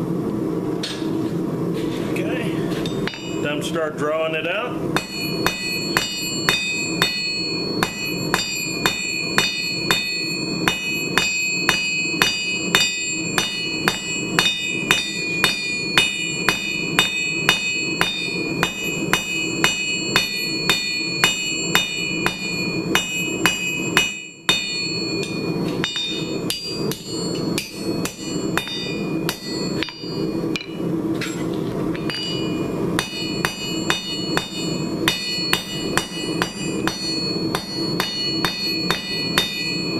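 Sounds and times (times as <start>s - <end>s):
hammer striking steel on anvil: 2.8s - 3.7s, 4.9s - 39.9s
anvil ringing: 2.9s - 3.7s, 4.9s - 39.9s.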